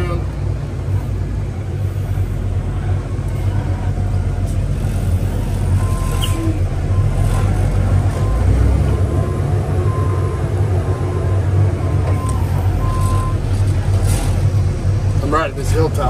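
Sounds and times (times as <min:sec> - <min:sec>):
engine humming under load: 0:00.0 - 0:16.0.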